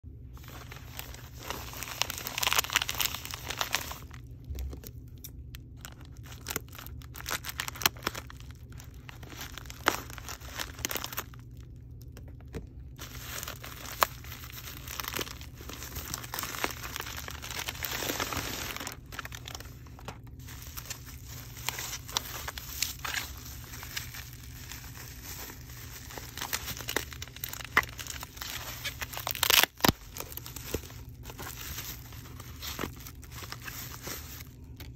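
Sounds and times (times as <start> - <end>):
bubble wrap rustling: 0.2 - 34.9
plastic mailer crinkling: 0.4 - 34.9.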